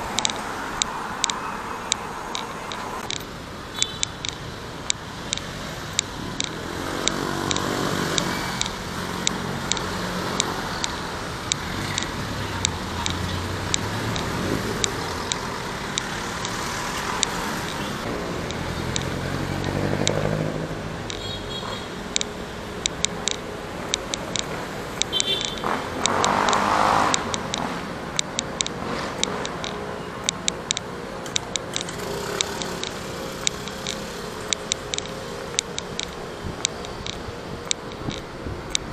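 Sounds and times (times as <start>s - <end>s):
road traffic hum: 0.0s - 38.9s
sharp ticking with walking: 0.0s - 38.9s
motor vehicles passing close: 4.2s - 38.9s.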